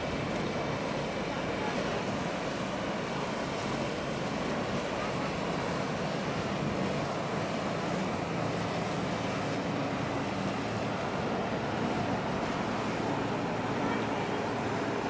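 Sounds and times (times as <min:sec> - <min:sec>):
choppy water: 0:00.0 - 0:15.0
faint low engine hum: 0:00.0 - 0:15.0.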